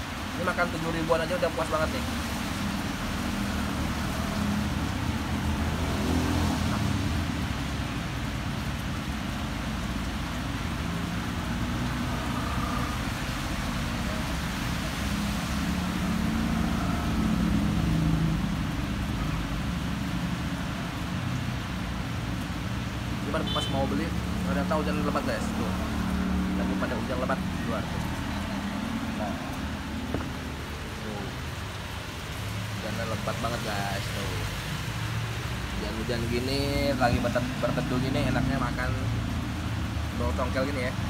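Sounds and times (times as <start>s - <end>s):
heavy rain hissing: 0.0s - 41.0s
road traffic rumble: 0.0s - 41.0s.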